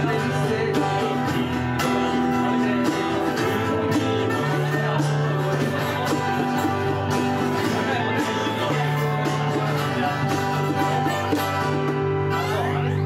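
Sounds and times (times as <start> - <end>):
folk band playing: 0.0 - 13.0.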